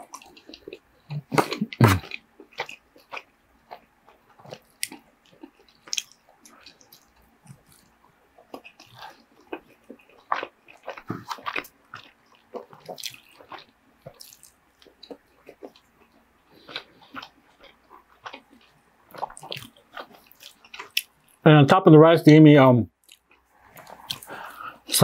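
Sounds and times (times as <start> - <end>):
close chewing with mouth smacks: 0.0 - 21.4, 23.0 - 25.0.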